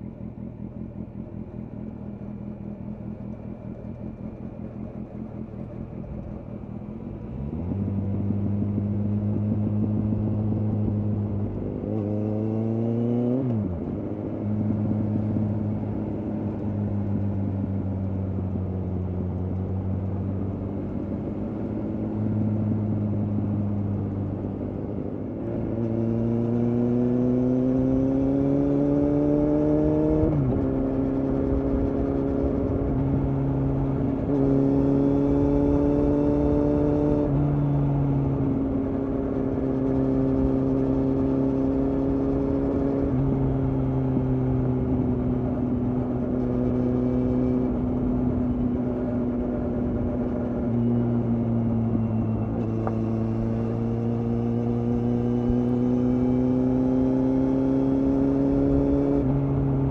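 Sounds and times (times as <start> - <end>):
motorcycle engine running: 0.0 - 12.4, 13.6 - 59.9.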